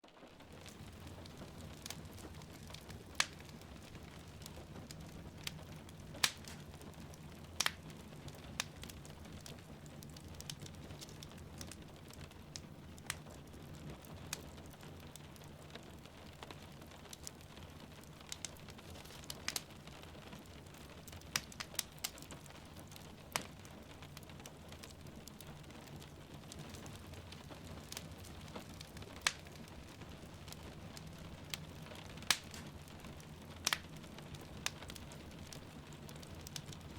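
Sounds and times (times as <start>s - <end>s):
soft hiss of rain: 0.0s - 36.9s
wood fire crackling: 0.0s - 36.9s.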